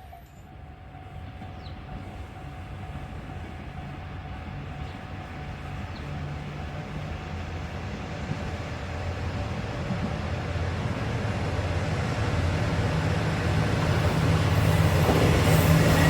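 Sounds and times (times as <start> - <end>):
diesel railcar engine drone: 0.0 - 16.0.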